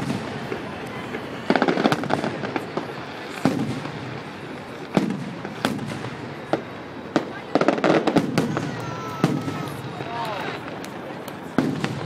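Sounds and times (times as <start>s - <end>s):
crackling firework pops: 0.0s - 12.0s.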